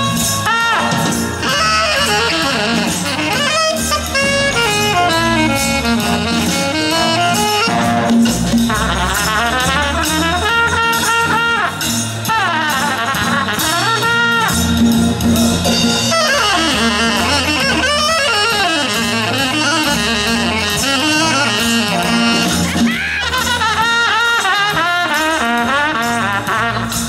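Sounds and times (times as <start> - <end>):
alto saxophone jazz phrases: 0.0 - 27.0
bass line and beat: 0.0 - 27.0
trumpet jazz phrases: 0.0 - 27.0.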